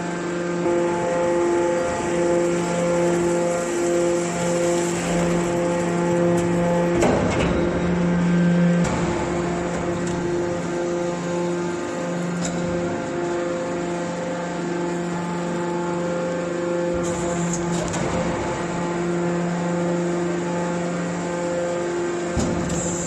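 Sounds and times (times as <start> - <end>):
hydraulic baler motor humming: 0.0 - 23.0.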